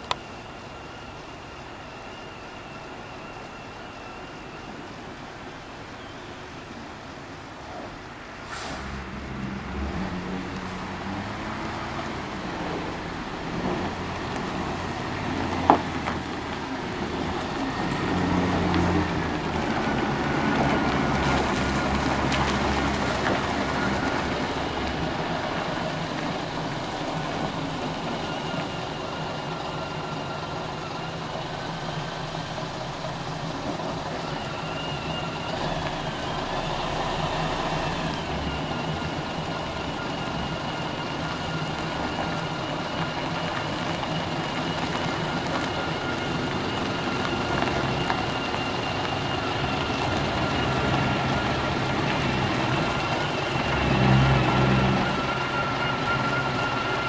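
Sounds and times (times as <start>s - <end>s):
bus diesel engine running: 0.0s - 57.0s
faint high whine: 0.0s - 57.0s.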